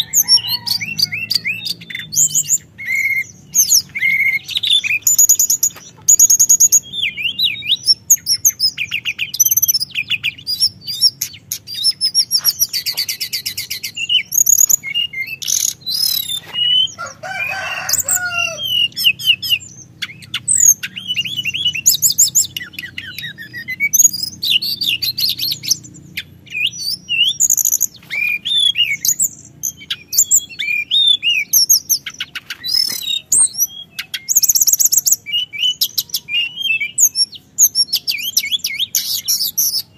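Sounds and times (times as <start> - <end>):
bird singing with trills: 0.0 - 39.9.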